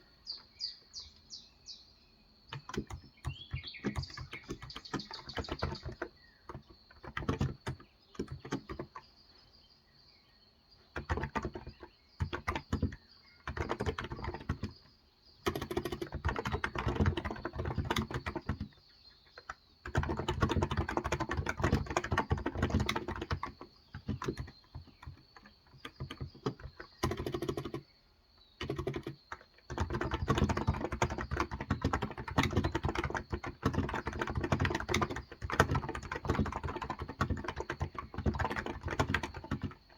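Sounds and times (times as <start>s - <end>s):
fast typing on keyboard: 2.5s - 9.2s, 10.9s - 27.9s, 28.6s - 39.9s.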